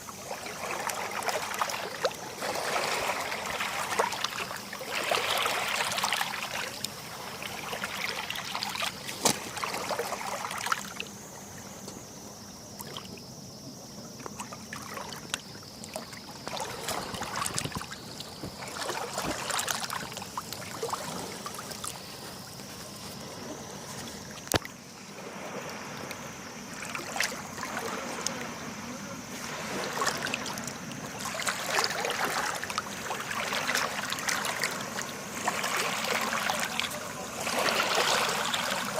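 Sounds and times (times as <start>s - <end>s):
sea water lapping and splashing: 0.0s - 38.9s.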